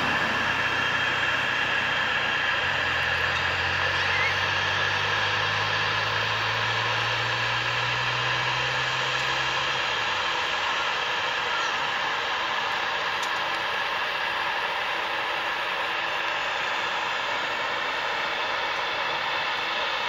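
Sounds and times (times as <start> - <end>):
jet engine whine: 0.0 - 20.0
low steady drone: 0.0 - 20.0.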